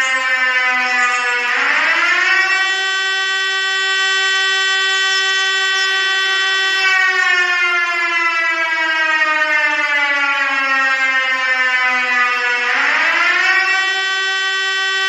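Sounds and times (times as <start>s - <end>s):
buzzy siren-like alarm tone: 0.0s - 15.0s.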